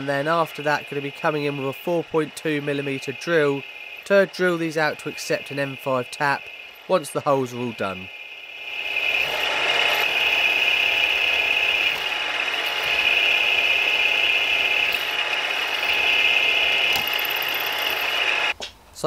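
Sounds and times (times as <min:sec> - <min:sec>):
drill boring into steel: 0:00.0 - 0:18.5.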